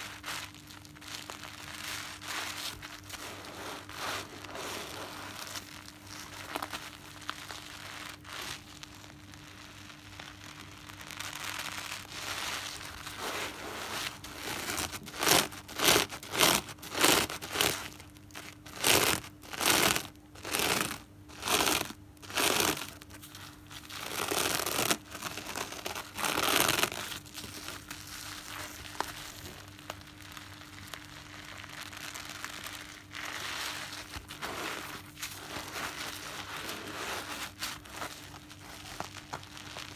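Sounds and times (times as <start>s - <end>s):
wet crackle of sponge foam: 0.0s - 39.9s.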